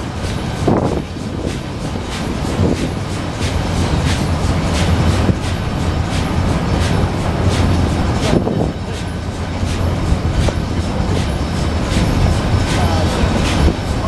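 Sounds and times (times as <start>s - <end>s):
steam train rumbling: 0.0s - 14.0s
wheels clicking over rails: 0.0s - 14.0s.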